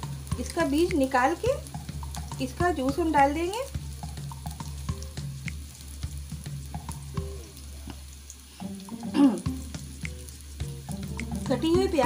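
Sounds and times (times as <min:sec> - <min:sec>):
onion frying in oil: 0:00.0 - 0:12.0.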